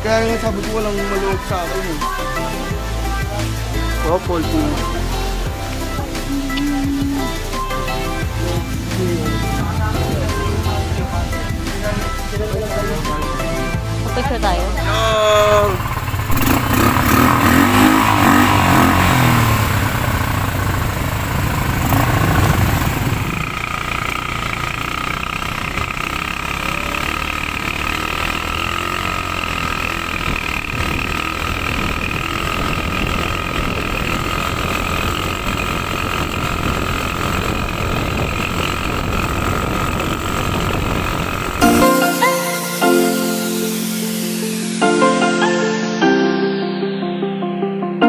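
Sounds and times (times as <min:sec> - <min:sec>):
atv engine running: 0:00.0 - 0:44.0
constant engine whine: 0:00.0 - 0:44.8.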